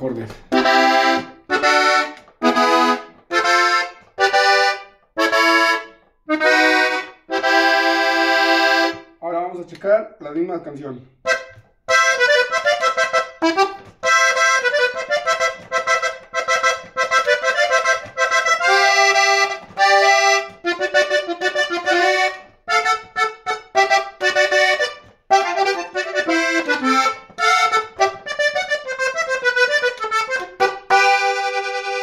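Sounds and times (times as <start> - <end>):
button accordion melody: 0.0 - 9.8, 11.2 - 32.0.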